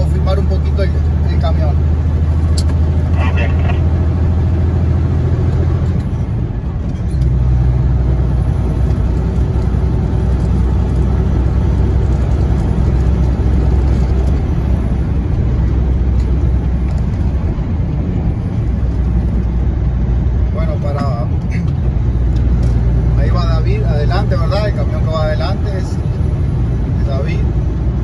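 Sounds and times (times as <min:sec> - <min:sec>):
truck diesel engine and road noise: 0:00.0 - 0:28.0.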